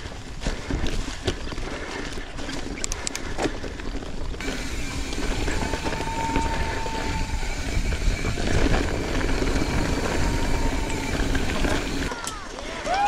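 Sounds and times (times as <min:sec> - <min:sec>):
wind and tyres rumbling: 0:00.0 - 0:12.2
bike knocking and rattling: 0:00.3 - 0:12.4.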